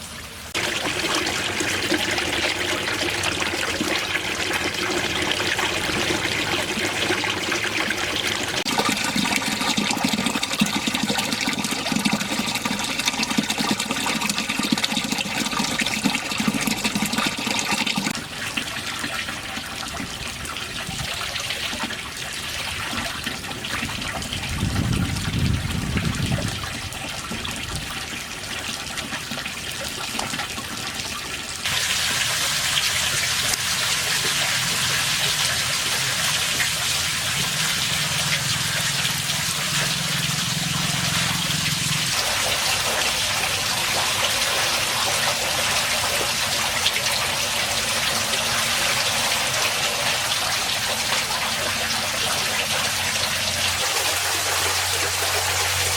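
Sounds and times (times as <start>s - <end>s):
water running and splashing: 0.0s - 55.9s.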